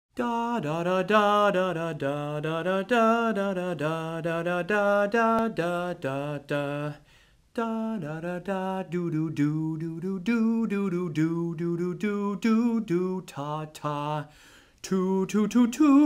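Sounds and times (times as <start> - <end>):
man singing unaccompanied: 0.1 - 16.0.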